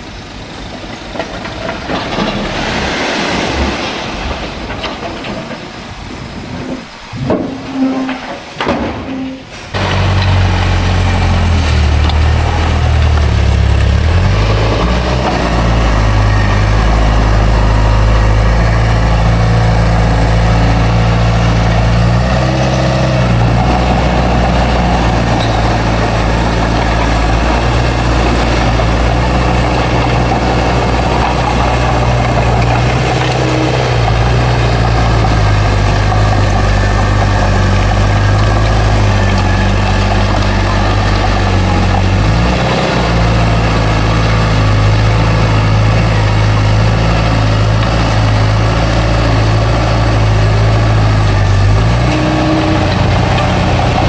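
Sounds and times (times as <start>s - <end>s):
bulldozer diesel engine under load: 0.0s - 8.6s, 9.4s - 54.0s.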